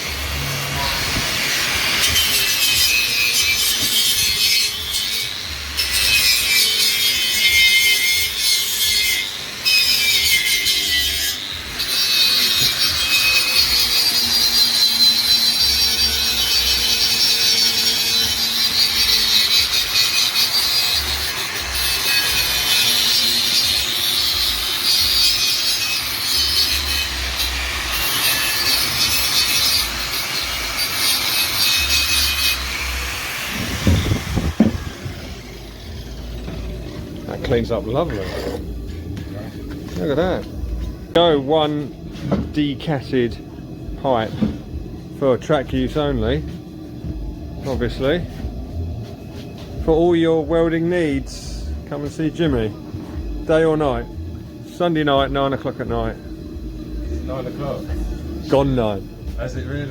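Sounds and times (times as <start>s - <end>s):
angle grinder grinding metal: 0.0s - 59.9s.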